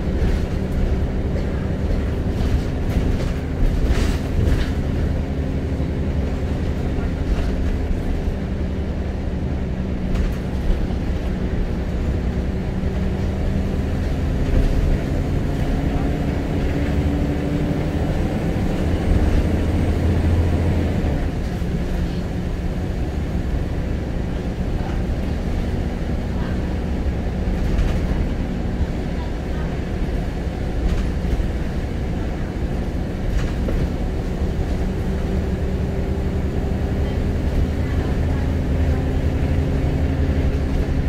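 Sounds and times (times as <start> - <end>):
bus diesel engine: 0.0 - 41.0
road and body rumble: 0.0 - 41.0.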